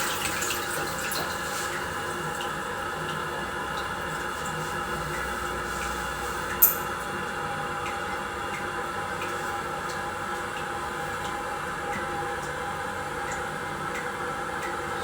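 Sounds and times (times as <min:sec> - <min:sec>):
water refilling toilet tank: 0:00.0 - 0:15.0.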